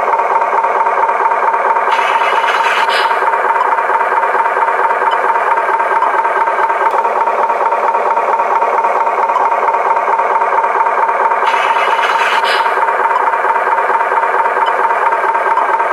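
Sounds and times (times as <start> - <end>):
toy truck whirring with rattling: 0.1 - 15.9.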